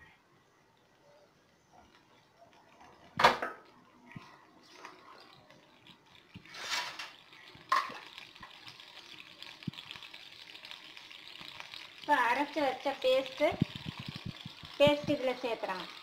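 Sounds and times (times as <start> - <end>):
water heating hiss: 0.0 - 16.0.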